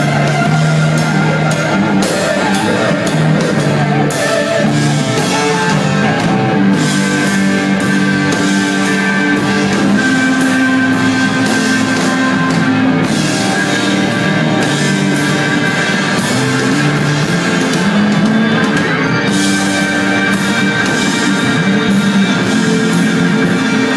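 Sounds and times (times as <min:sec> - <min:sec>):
electric guitar sustained notes: 0:00.0 - 0:23.9
live blues-rock band: 0:00.0 - 0:23.9.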